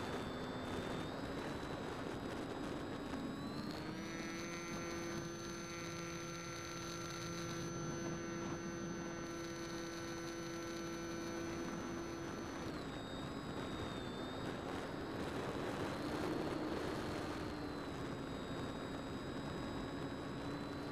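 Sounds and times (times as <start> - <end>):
electric motor whining: 0.0 - 20.9.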